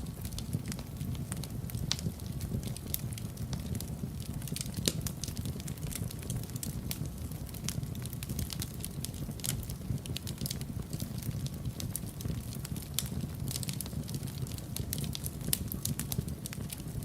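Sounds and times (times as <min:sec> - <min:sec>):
flames rumbling: 0:00.0 - 0:17.0
wood fire crackling and popping: 0:00.0 - 0:17.0.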